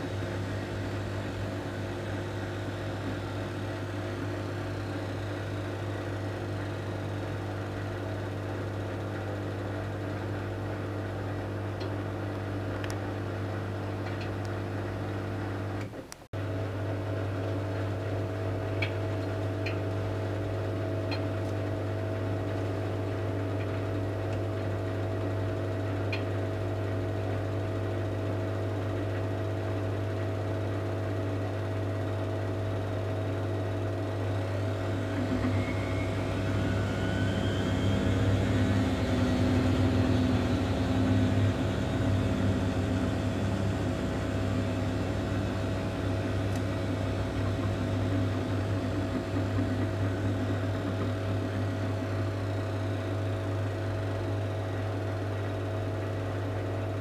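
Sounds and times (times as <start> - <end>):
washing machine drum whine: 0.0 - 57.0
washing machine motor humming: 0.0 - 57.0.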